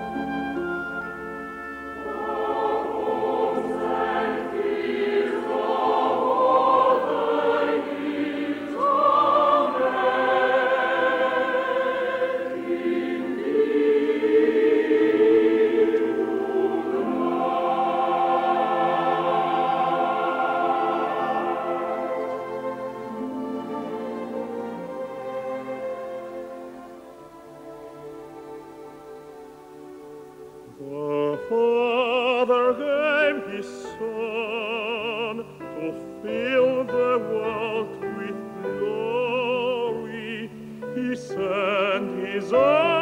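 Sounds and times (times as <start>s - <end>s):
choir singing a carol: 0.0s - 43.0s.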